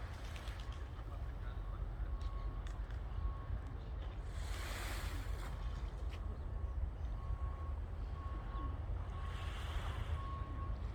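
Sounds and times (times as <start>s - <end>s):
wind: 0.0s - 10.9s.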